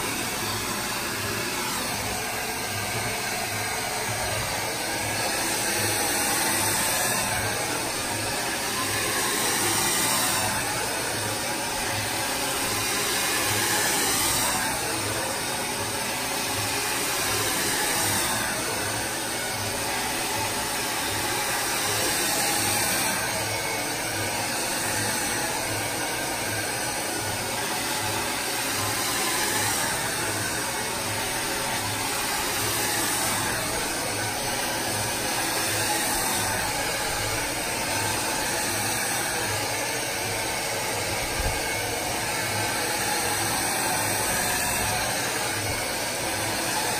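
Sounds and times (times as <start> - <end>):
hair dryer running: 0.0 - 46.9.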